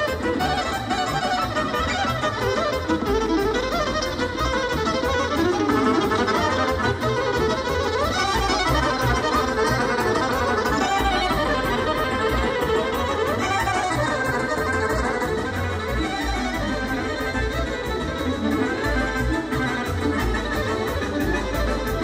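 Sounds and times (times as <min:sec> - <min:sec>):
accordion dance music: 0:00.0 - 0:22.0.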